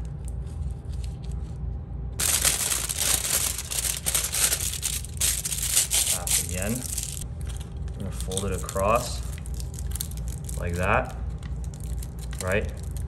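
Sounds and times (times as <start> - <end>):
aluminium foil crinkling: 2.2 - 13.0.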